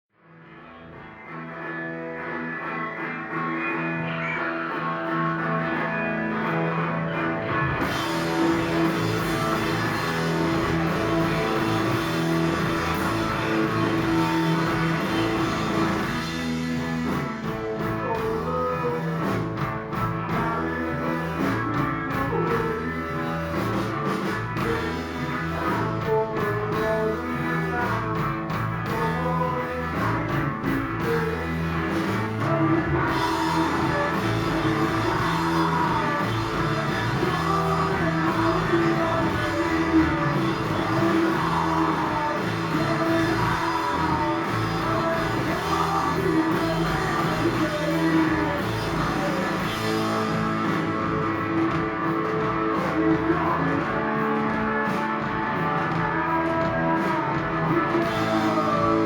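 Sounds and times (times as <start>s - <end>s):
bass guitar sustained notes: 0.2s - 59.0s
electric guitar sustained notes: 0.2s - 59.0s
drum kit steady beat: 5.0s - 59.0s.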